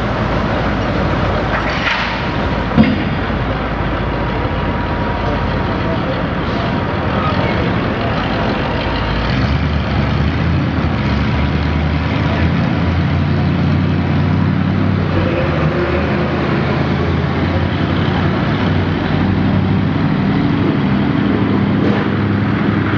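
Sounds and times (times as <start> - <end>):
truck engine at high revs: 0.0 - 22.9.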